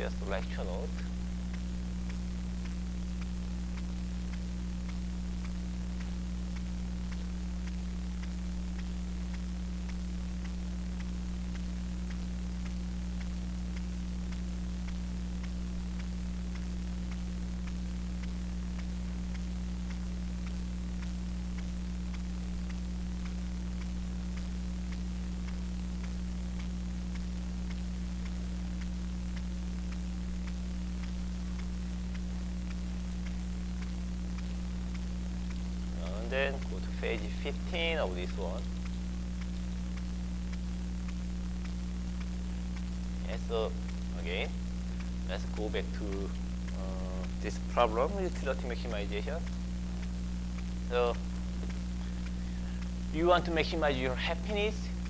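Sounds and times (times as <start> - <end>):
electrical hum with hiss: 0.0 - 55.0
faint ticks: 0.0 - 55.0.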